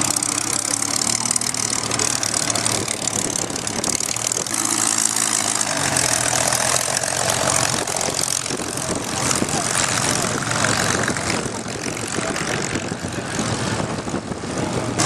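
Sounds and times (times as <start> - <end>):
aircraft piston engines idling: 0.0 - 14.9.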